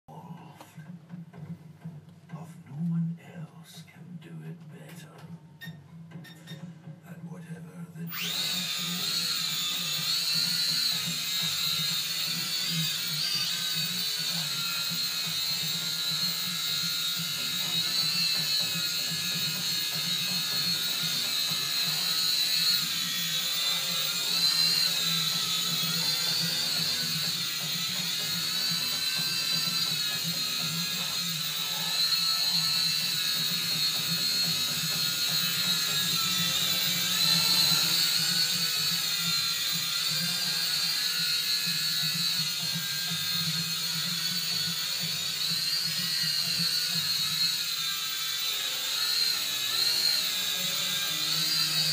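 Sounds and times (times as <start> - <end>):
quadcopter buzzing whine: 8.1 - 51.9.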